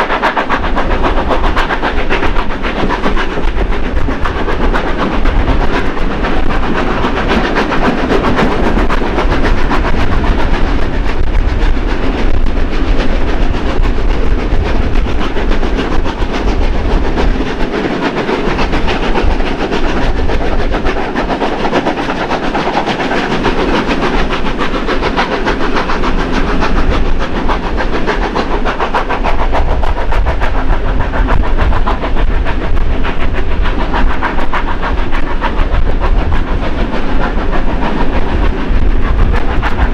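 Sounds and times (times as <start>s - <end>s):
steam locomotives working hard: 0.0s - 39.9s
train wheels clattering on rails: 0.0s - 39.9s.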